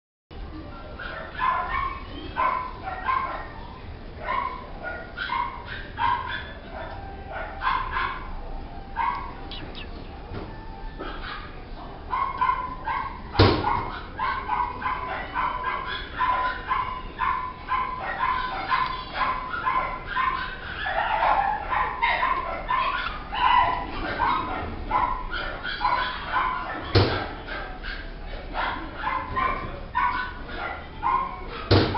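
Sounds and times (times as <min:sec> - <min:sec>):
dog barking and yipping: 0:01.0 - 0:08.3, 0:09.0 - 0:09.4, 0:12.1 - 0:31.6.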